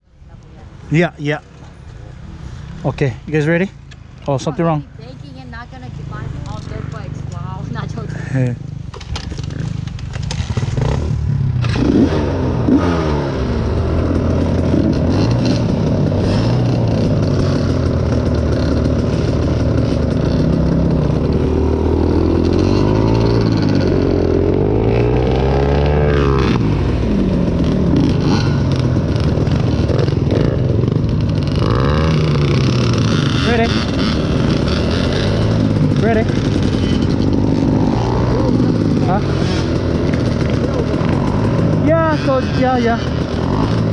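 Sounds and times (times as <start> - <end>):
dirt bike engines revving: 0.2 - 43.9.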